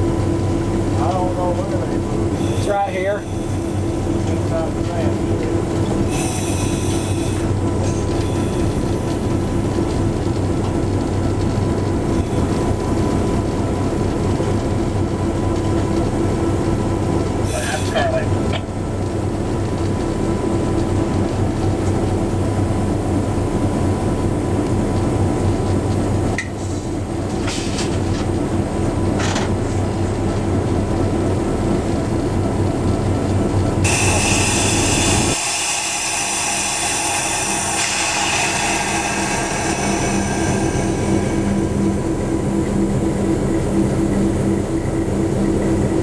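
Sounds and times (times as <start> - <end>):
diesel locomotive engine hum: 0.0 - 46.0.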